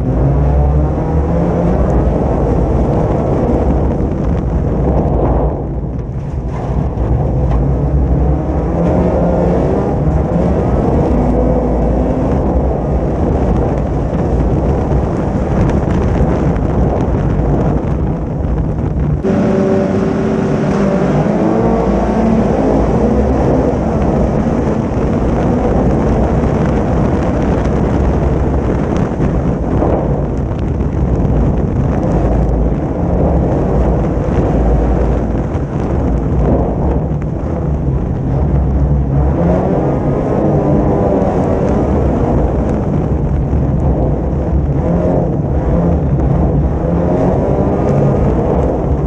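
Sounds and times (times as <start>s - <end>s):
engines revving: 0.0s - 17.8s, 18.5s - 49.0s
race car engines: 0.0s - 49.0s
wind noise: 0.0s - 49.0s.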